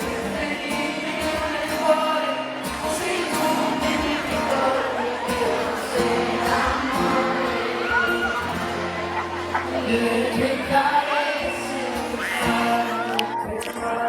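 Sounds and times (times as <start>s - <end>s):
live pop song over pa: 0.0s - 14.0s.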